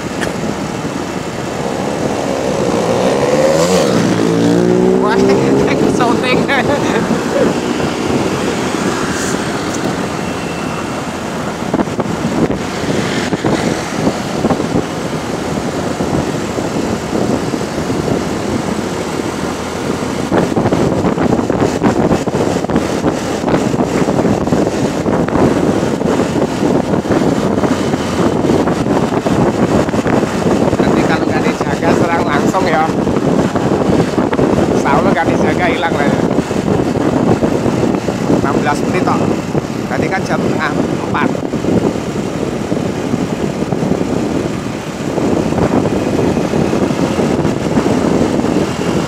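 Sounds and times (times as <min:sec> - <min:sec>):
motorcycle engine running: 0:00.0 - 0:49.0
wind buffeting microphone: 0:00.0 - 0:49.0.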